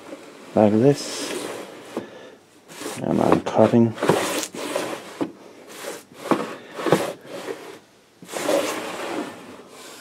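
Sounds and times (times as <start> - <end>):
wood rubbing and scraping on jig: 1.0 - 10.0.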